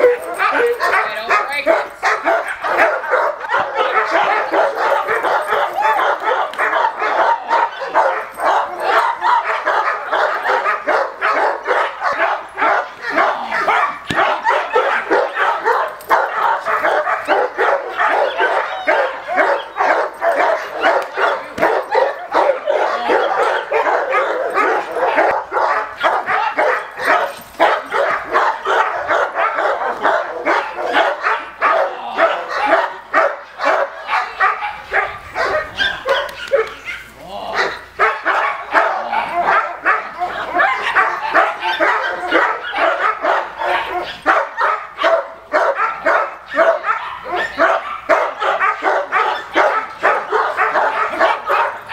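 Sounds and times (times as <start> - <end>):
dog barking rapidly: 0.0 - 51.9.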